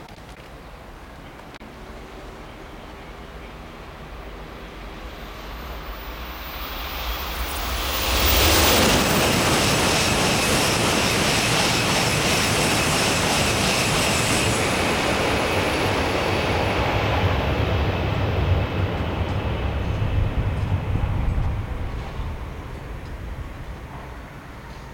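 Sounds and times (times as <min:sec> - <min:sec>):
high-speed train rushing past: 0:00.6 - 0:24.9.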